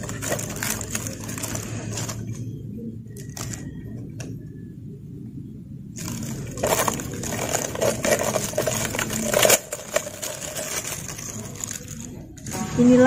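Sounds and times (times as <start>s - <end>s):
plastic sheet crinkling: 0.0s - 4.3s, 6.0s - 12.9s.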